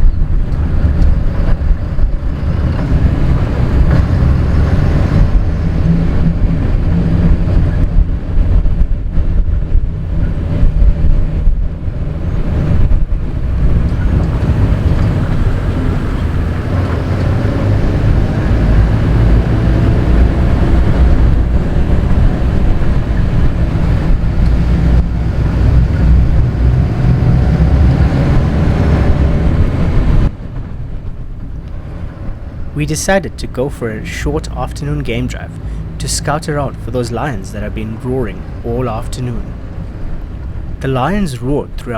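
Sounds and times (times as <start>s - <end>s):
vehicle engine rumble: 0.0s - 41.9s
wind buffeting on microphone: 0.0s - 41.9s.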